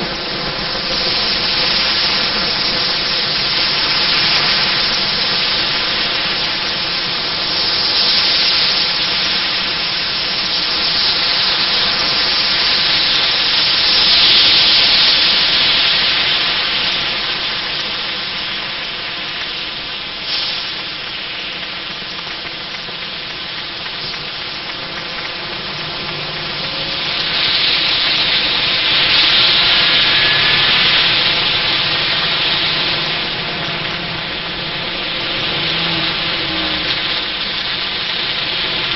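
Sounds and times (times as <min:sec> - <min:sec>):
tyres hissing on wet road: 0:00.0 - 0:38.9.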